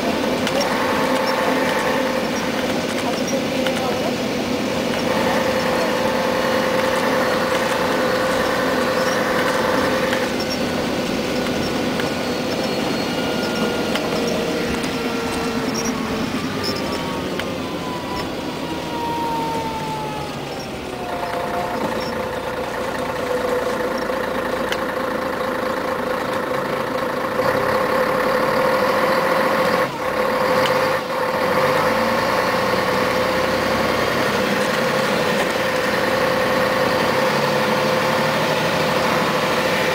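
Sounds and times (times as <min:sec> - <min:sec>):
bus diesel engine whining: 0:00.0 - 0:39.9.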